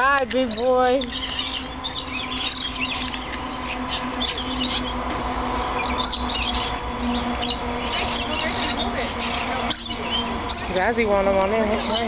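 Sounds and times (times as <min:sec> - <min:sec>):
lorikeets chattering and chirping: 0:00.0 - 0:12.0
steady low hum: 0:00.0 - 0:12.0.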